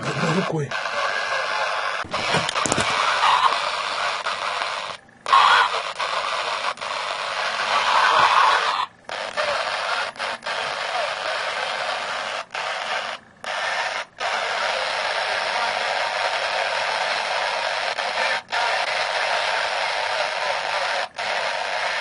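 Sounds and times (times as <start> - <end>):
faint voice over radio: 0.0 - 13.1, 14.2 - 22.0
radio static hiss: 0.0 - 22.0.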